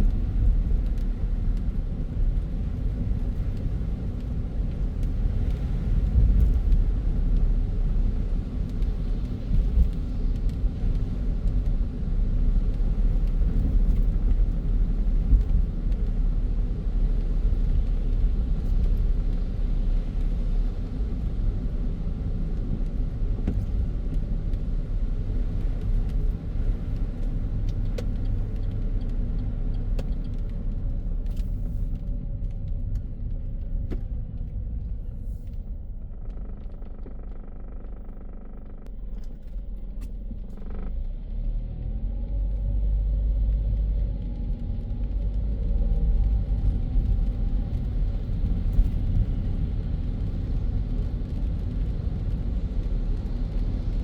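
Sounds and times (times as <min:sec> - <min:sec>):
car tyres and engine rumbling: 0:00.0 - 0:54.0.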